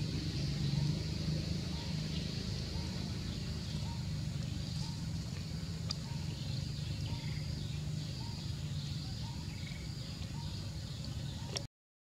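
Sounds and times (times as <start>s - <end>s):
insects and birds chirping: 0.0s - 11.7s
low hum: 0.0s - 11.7s.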